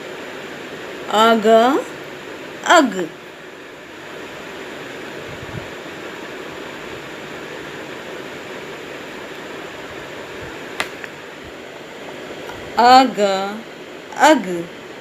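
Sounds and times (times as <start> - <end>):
room noise hiss: 0.0 - 15.0.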